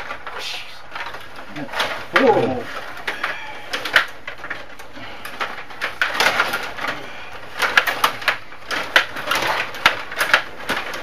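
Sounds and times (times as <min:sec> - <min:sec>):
table hockey clicks and clacks: 0:00.0 - 0:11.0.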